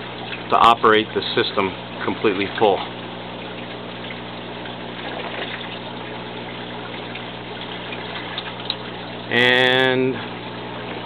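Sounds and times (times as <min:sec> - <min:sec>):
steady low hum: 0:00.0 - 0:11.0
water running and trickling: 0:00.0 - 0:11.0.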